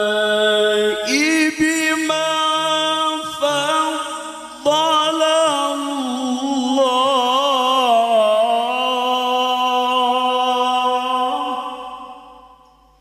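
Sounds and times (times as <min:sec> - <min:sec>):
man reciting melodically: 0:00.0 - 0:12.7.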